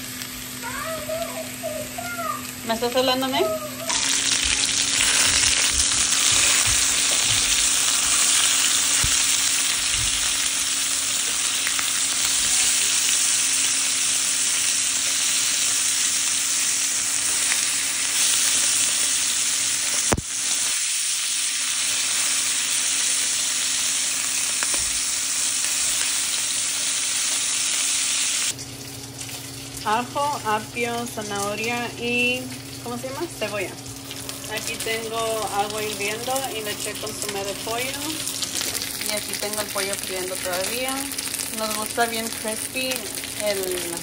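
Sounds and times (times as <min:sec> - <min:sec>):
meat sizzling in oil: 0:00.0 - 0:30.5, 0:32.6 - 0:44.0.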